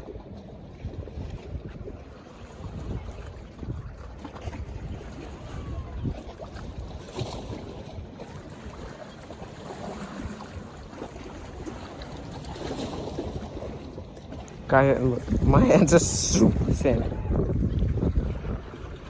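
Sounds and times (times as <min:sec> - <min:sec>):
waves washing against jetty: 0:00.0 - 0:19.0
wind buffeting microphone: 0:00.0 - 0:19.0.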